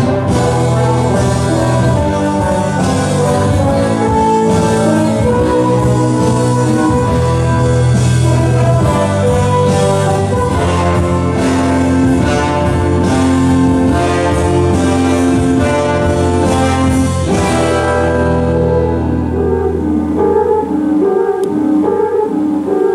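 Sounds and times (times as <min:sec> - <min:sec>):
orchestral music with brass: 0:00.0 - 0:22.9.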